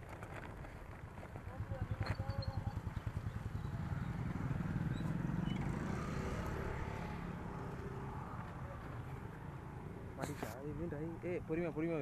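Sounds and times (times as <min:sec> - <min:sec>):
motorcycle passing: 0:00.8 - 0:11.9.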